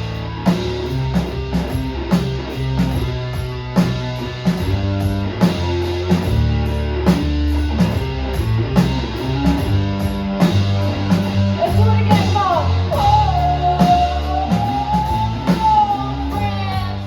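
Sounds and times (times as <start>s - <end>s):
bass guitar: 0.0s - 17.0s
drum kit beat: 0.0s - 17.0s
guitar: 0.0s - 17.0s.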